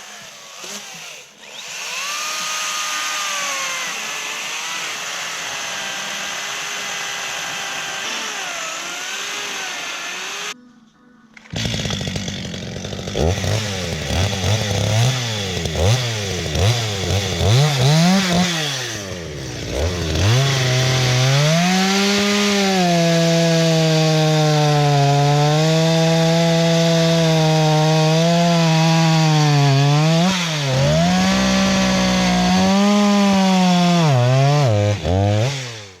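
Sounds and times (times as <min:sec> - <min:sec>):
electric chainsaw whining: 0:00.0 - 0:10.6, 0:11.4 - 0:36.0.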